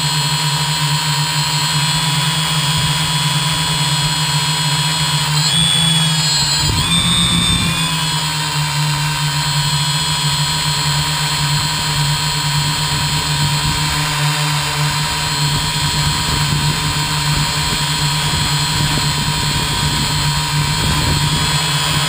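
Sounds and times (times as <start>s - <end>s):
drone motors whirring: 0.0s - 22.0s.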